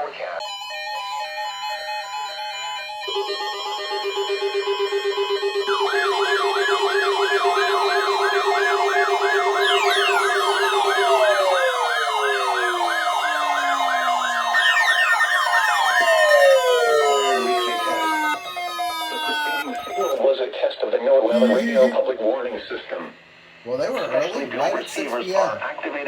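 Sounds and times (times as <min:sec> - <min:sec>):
electronic siren tones: 0:00.5 - 0:20.3, 0:21.3 - 0:22.1, 0:23.7 - 0:25.6.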